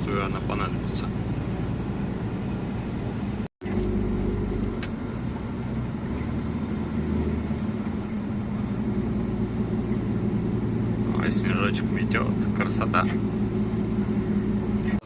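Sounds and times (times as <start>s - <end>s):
road noise inside cab: 0.0s - 15.0s
truck diesel engine drone: 0.0s - 15.0s.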